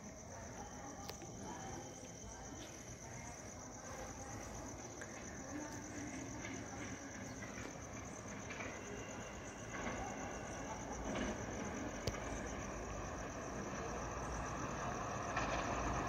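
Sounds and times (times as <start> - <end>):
crickets chirping: 0.0 - 16.0
distant train rumble: 0.0 - 16.0.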